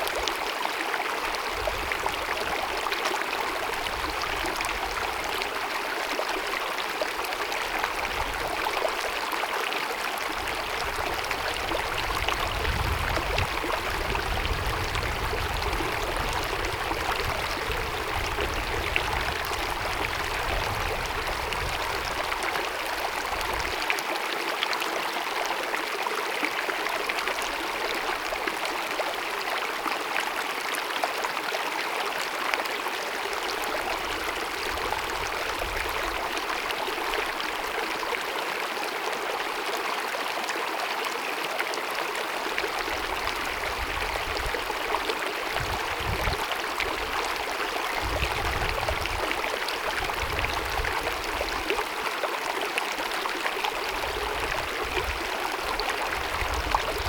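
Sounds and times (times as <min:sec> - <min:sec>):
stream babbling and cascading: 0:00.0 - 0:57.0.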